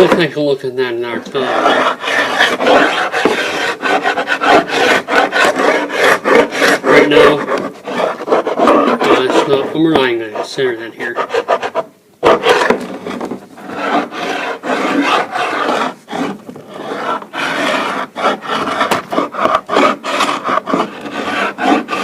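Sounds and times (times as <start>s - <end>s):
hand rubbing on wooden floor: 1.0s - 22.0s.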